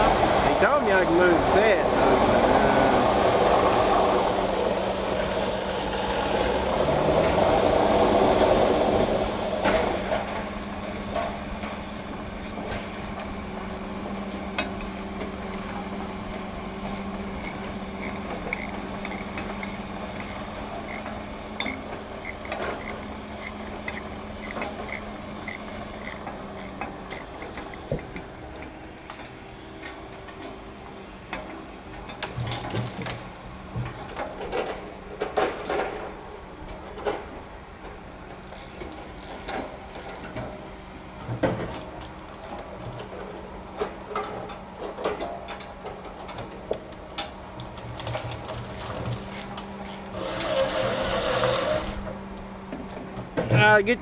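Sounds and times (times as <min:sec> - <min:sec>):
engine running with rattles: 0:00.0 - 0:53.8.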